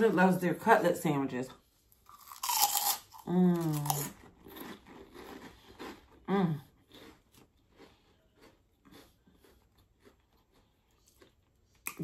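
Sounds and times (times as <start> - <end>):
chewing crunchy chips: 2.0 - 12.0.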